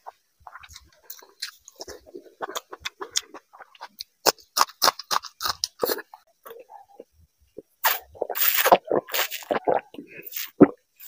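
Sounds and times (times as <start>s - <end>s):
open-mouthed chewing: 0.0s - 10.8s.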